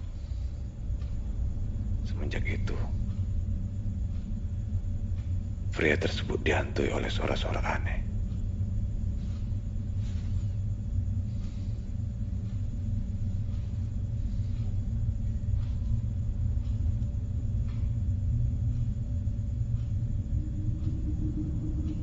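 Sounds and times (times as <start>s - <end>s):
faint steady hum: 0.0s - 22.0s
low rumbling drone: 0.0s - 22.0s.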